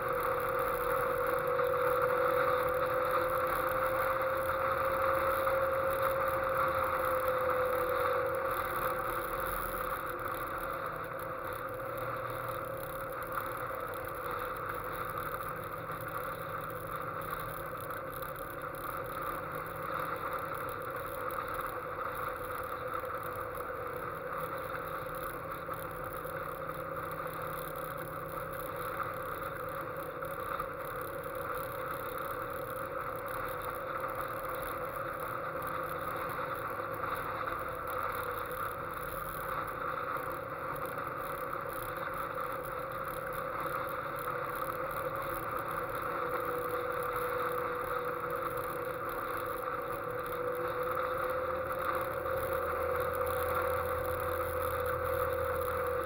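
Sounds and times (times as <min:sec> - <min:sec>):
car engine cruising: 0:00.0 - 0:56.0
road noise: 0:00.0 - 0:56.0.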